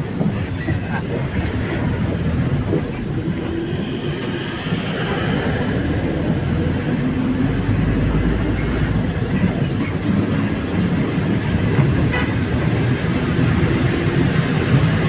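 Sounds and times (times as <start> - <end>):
bus engine rumble: 0.0 - 15.0
road noise: 0.0 - 15.0.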